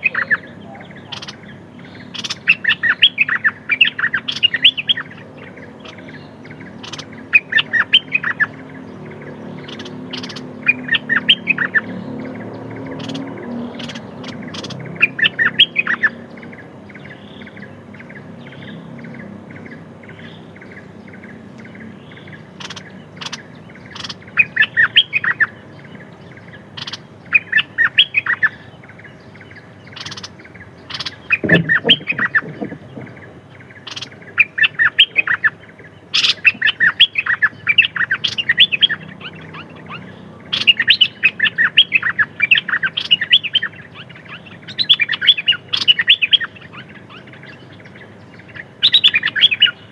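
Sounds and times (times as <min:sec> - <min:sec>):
bird chattering: 0:00.0 - 0:49.9
songbird chirping: 0:00.0 - 0:49.9.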